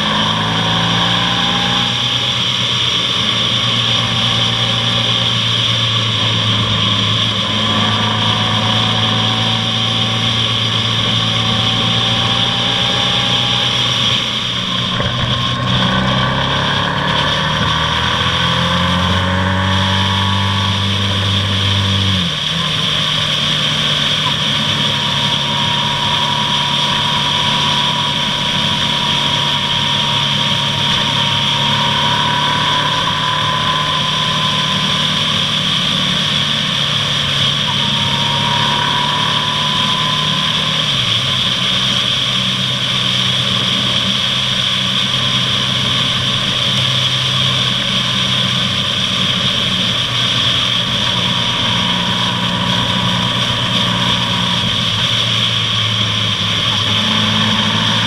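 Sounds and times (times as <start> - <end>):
motorcycle engine cruising: 0.0 - 58.0
wind and road noise hiss: 0.0 - 58.0.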